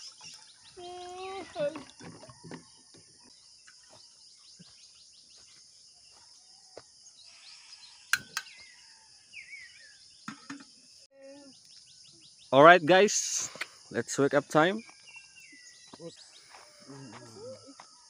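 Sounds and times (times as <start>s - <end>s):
bird chirping: 0.0s - 18.0s
high insect chorus: 0.0s - 18.0s.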